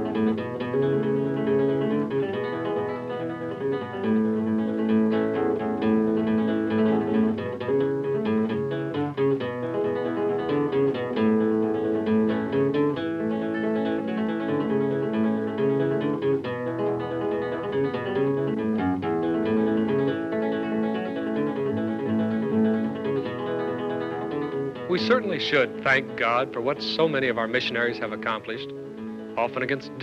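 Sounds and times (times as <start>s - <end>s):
acoustic guitar strummed and plucked: 0.0s - 30.0s.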